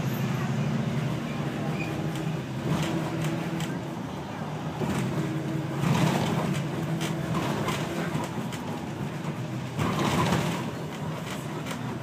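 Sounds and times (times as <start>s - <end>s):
bus engine drone: 0.0s - 12.0s
bus body rattling: 0.9s - 12.0s.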